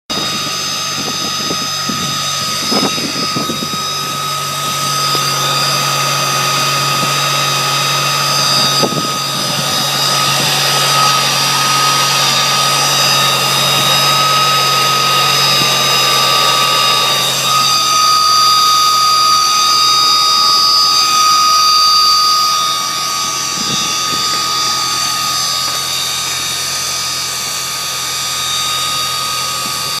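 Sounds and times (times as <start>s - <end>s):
high-pitched engine whine: 0.0s - 30.0s
low engine hum: 0.1s - 30.0s.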